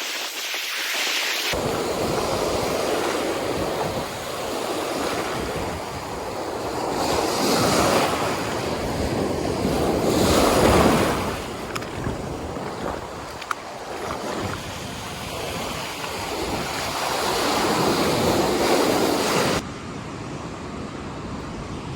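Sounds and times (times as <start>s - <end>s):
ocean surf breaking: 0.0s - 19.6s
wind buffeting microphone: 1.5s - 21.9s.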